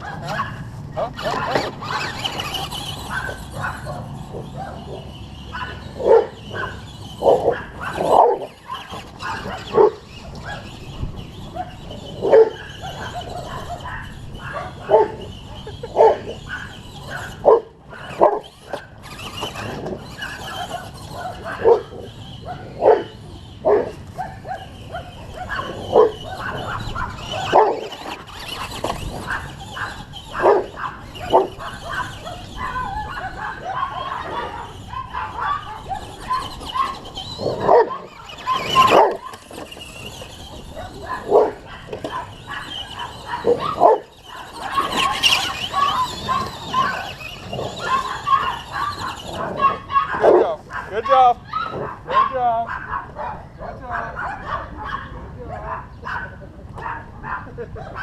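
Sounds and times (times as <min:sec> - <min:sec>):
dogs barking: 0:00.0 - 0:58.0.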